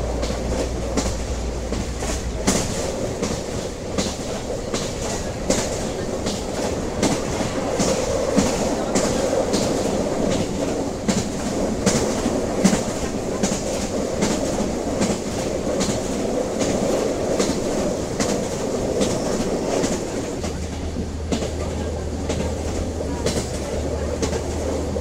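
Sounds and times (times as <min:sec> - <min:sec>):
train rumble: 0:00.0 - 0:25.0
wheels clacking over rail joints: 0:00.0 - 0:25.0.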